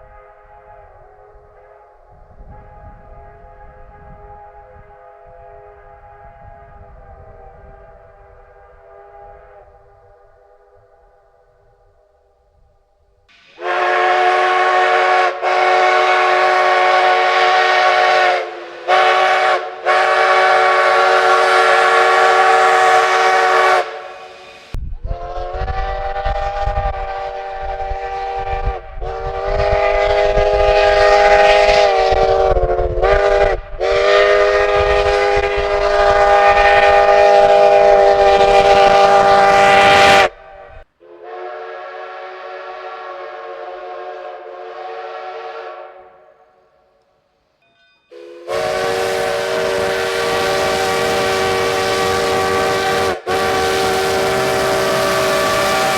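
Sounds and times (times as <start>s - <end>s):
multi-chime train whistle: 0.0s - 11.9s, 13.3s - 47.0s, 47.6s - 55.9s.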